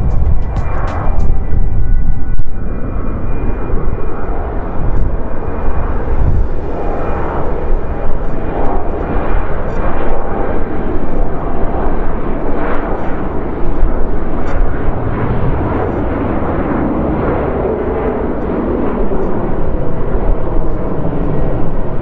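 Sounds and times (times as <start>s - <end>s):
jet engines roaring at takeoff: 0.0s - 22.0s.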